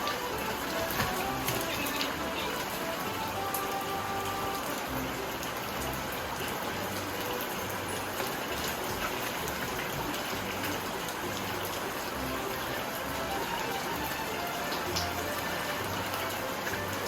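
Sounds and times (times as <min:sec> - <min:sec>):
rushing water: 0:00.0 - 0:17.0
soft background music: 0:00.0 - 0:17.0.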